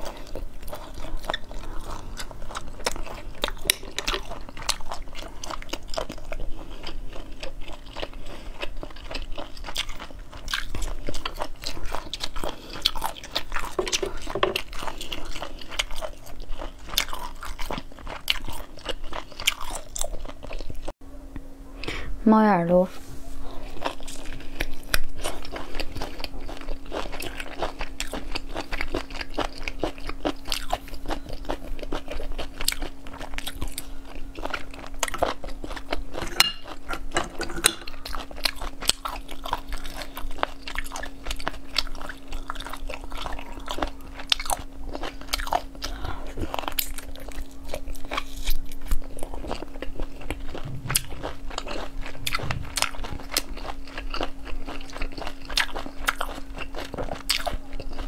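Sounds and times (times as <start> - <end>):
wet chewing and sucking: 0.0 - 20.9, 23.6 - 58.0
faint steady hum: 0.0 - 58.0.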